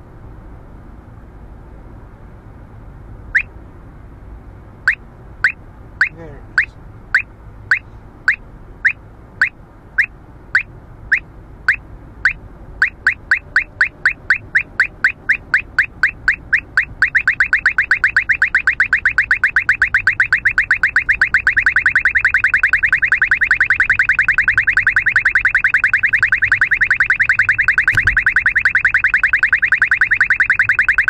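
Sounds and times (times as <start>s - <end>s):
road noise inside car: 0.0s - 31.0s.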